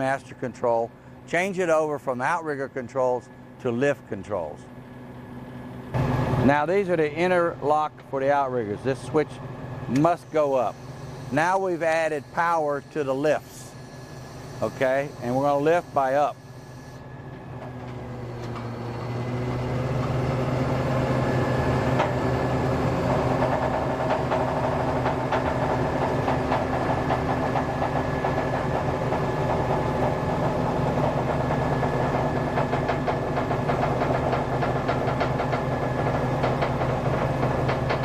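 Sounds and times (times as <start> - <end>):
truck engine and hydraulic pump: 0.0 - 38.0.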